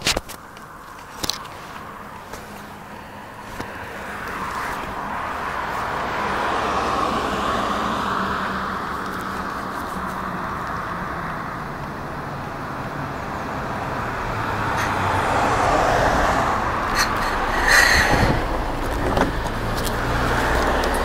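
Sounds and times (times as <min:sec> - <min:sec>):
car passing on road: 0:00.4 - 0:21.0.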